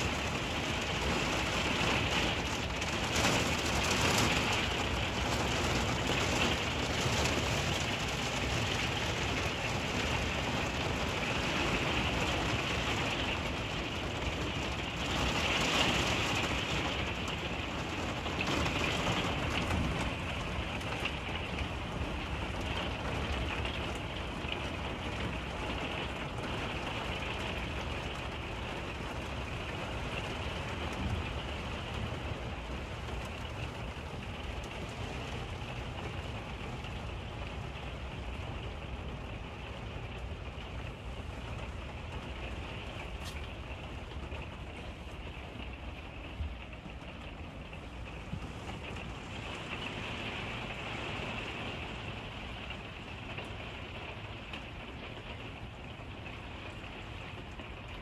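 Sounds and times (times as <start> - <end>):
heavy rain on a vehicle: 0.0 - 58.0.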